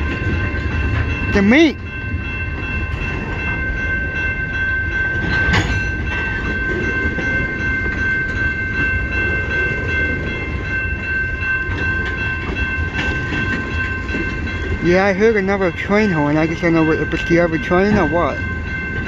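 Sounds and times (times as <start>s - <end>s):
freight train cars rumbling: 0.0s - 19.0s.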